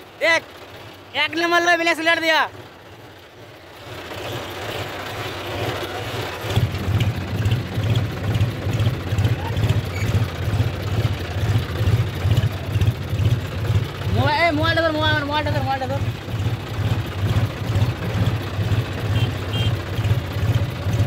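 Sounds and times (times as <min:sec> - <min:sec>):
tractor diesel engine rumbling: 0:00.0 - 0:21.0.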